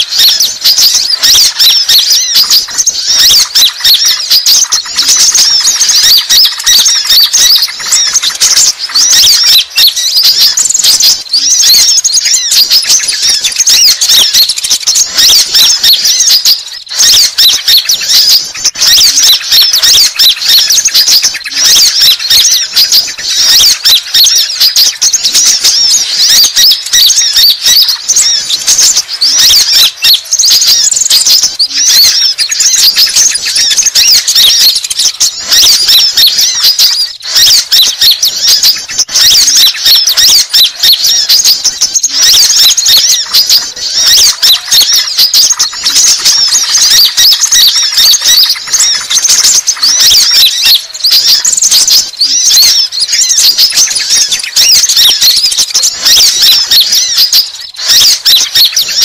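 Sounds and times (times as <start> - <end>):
sunbirds chirping and twittering: 0.0 - 59.0.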